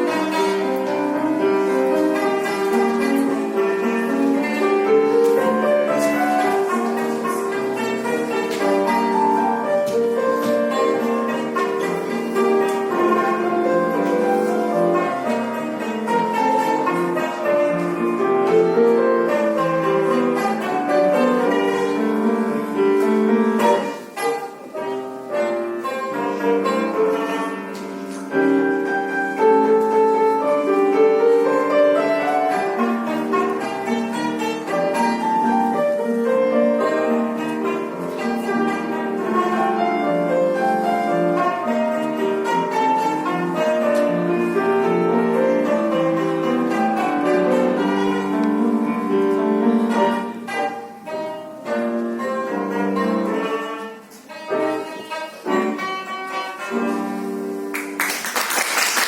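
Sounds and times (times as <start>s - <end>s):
tar melody: 0.0s - 58.0s
piano accompaniment: 0.0s - 59.0s.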